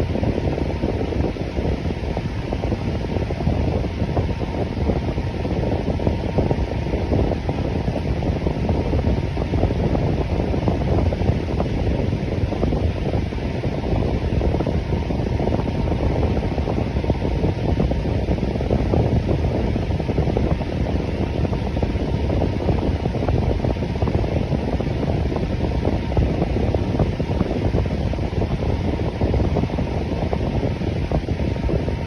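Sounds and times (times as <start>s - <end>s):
electric fan running: 0.0s - 32.0s.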